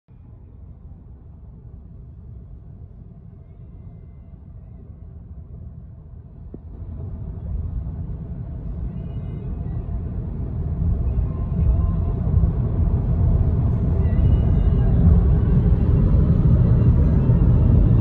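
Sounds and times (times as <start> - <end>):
car cabin road noise: 0.1 - 18.0.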